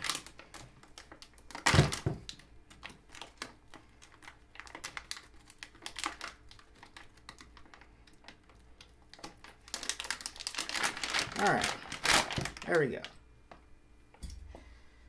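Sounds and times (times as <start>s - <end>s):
plastic bag crackling: 0.0s - 13.2s.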